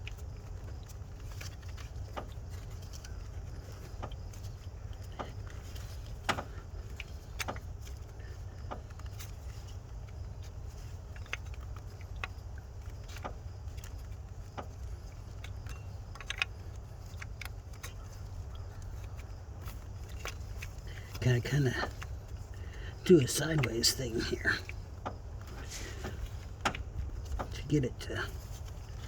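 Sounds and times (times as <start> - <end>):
light clicks and taps of tools: 0.0 - 29.0
low steady rumble: 0.0 - 29.0.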